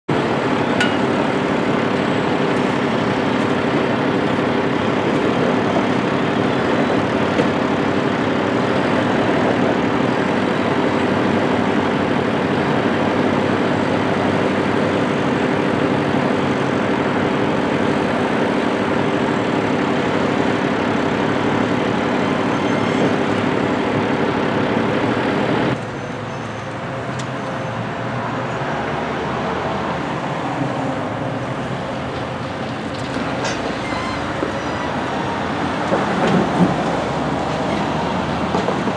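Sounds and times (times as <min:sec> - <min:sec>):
tractor loader diesel engine: 0:00.1 - 0:38.9.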